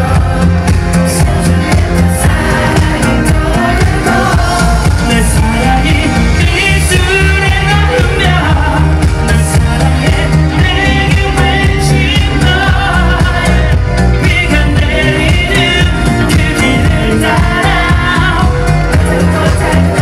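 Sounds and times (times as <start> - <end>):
amplified backing music: 0.0 - 20.0
man singing into a microphone: 0.0 - 20.0.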